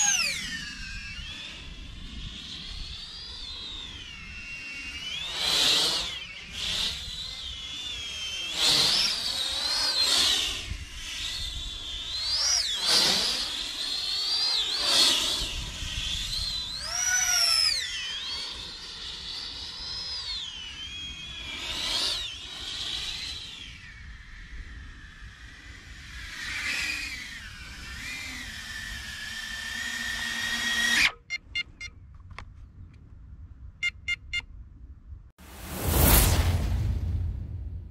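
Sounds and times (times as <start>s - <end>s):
quadcopter motors whining: 0.0s - 32.4s.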